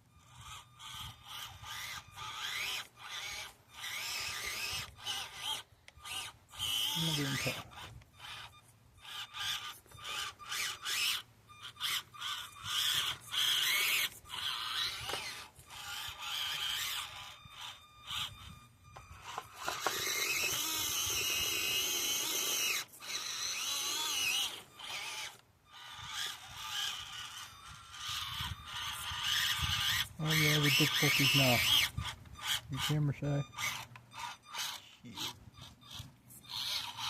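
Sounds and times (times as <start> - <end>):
small electric motor whining: 0.0 - 37.0.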